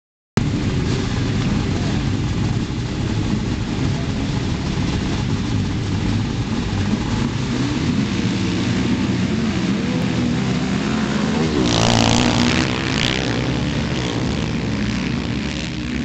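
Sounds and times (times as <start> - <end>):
motorcycle engines revving: 0.4 - 16.0.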